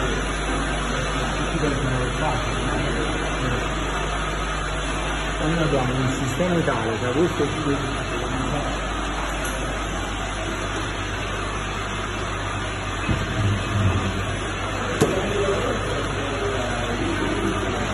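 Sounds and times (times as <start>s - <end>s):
bottling machinery humming: 0.0s - 17.9s.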